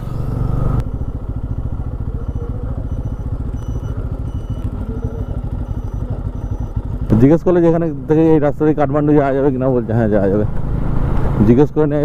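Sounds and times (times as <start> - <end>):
motorbike engine running: 0.0 - 11.4.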